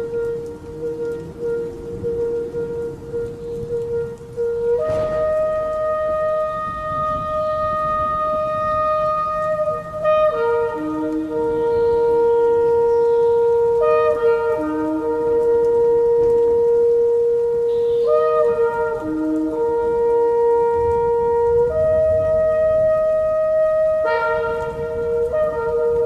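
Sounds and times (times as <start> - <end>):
horns blowing long notes: 0.0 - 26.0.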